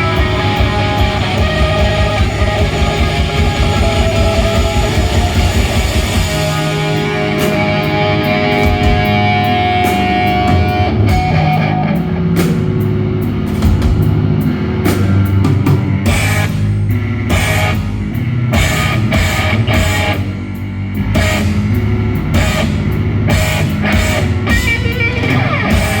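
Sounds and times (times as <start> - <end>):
bass guitar: 0.0 - 26.0
distorted electric guitar: 0.0 - 26.0
drum kit with cymbal crashes: 0.0 - 26.0.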